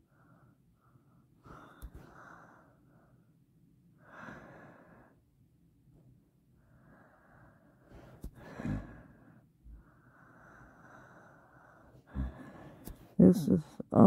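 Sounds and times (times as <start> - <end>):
person breathing: 0.0 - 3.4, 4.0 - 5.2, 6.6 - 13.2.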